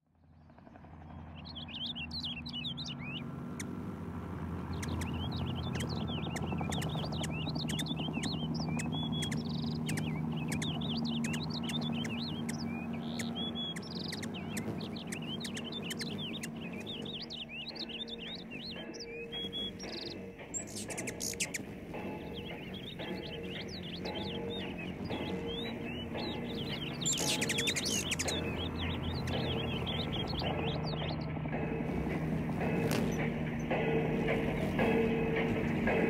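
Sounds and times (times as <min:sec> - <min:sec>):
steady low hum: 0:00.6 - 0:36.0
small birds chirping: 0:01.3 - 0:36.0.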